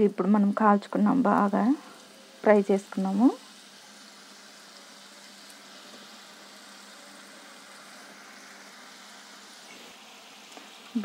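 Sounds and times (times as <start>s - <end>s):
dough frying in hot oil: 0.0s - 11.0s.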